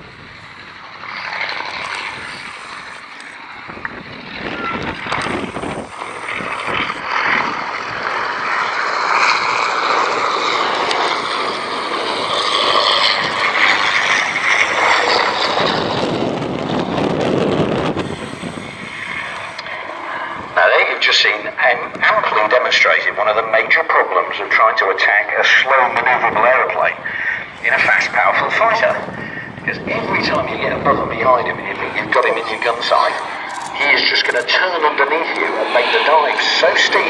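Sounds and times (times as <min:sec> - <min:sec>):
propeller aircraft engine: 0:00.0 - 0:37.0.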